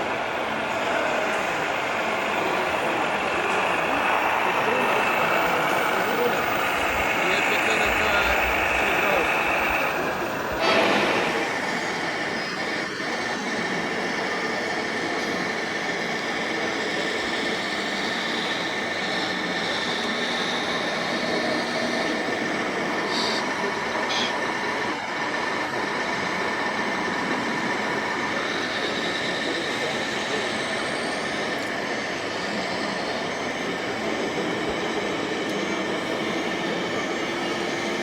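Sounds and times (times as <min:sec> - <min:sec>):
background hubbub: 0:00.0 - 0:38.0
model truck electric motors whining: 0:00.0 - 0:38.0.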